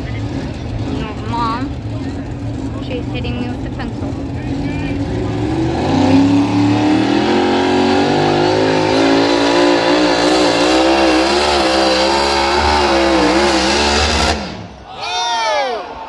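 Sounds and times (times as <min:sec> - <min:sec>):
tractor engine revving hard: 0:00.0 - 0:14.9.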